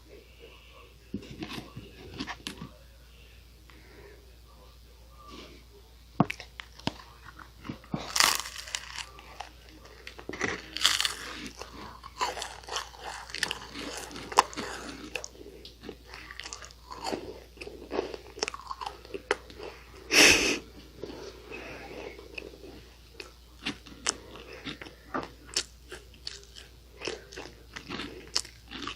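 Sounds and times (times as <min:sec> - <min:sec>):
crunchy cookie chewing: 0:00.3 - 0:03.0, 0:05.2 - 0:28.9.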